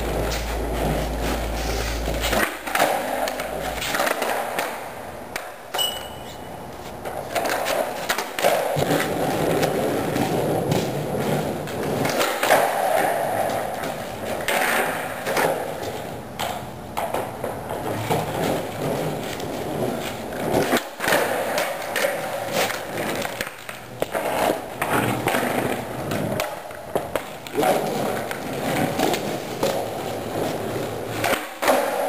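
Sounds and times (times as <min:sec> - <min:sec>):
skateboard wheels rolling: 0:00.0 - 0:32.0
skateboard landing clacks: 0:02.0 - 0:05.9, 0:07.0 - 0:32.0.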